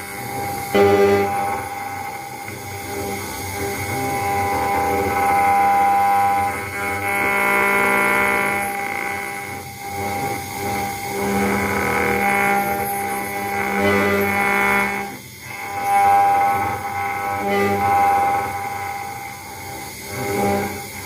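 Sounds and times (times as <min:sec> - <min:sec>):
router spindle whining cutting metal: 0:00.0 - 0:21.0.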